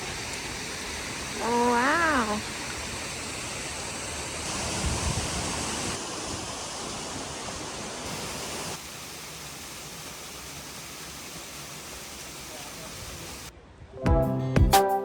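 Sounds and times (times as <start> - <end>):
rushing water: 0.0 - 13.5.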